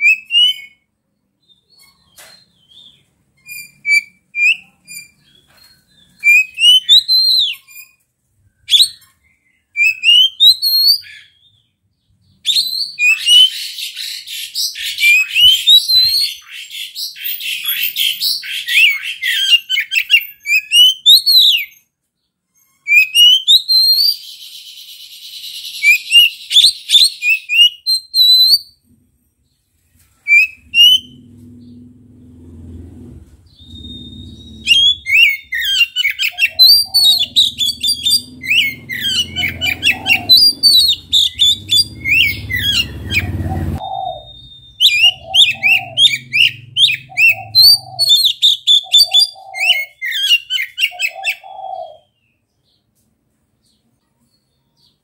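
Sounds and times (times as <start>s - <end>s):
bird singing whistles and trills: 0.0s - 0.8s, 1.4s - 21.9s, 22.6s - 28.8s, 30.3s - 31.8s, 33.5s - 52.4s.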